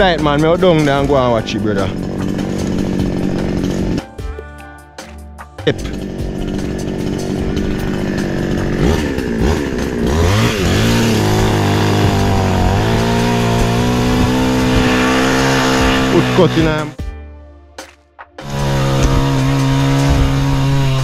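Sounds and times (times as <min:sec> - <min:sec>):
chainsaw engine revving: 0:00.3 - 0:04.2, 0:05.7 - 0:17.0, 0:18.4 - 0:21.0.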